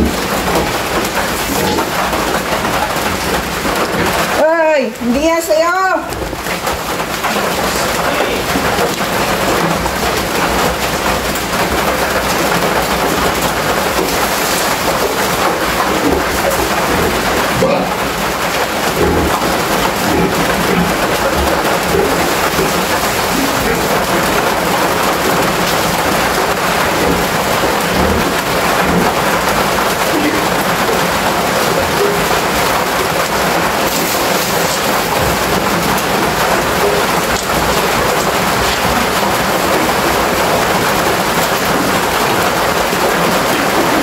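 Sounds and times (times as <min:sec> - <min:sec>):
heavy rain on metal roof: 0:00.0 - 0:44.0.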